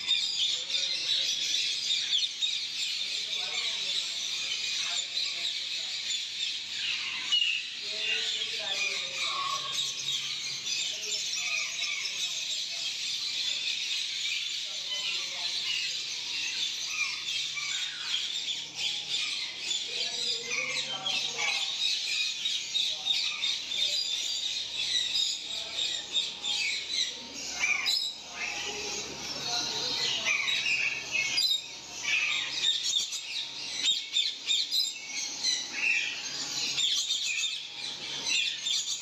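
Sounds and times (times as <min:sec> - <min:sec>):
parrots chattering and squawking: 0:00.0 - 0:39.0.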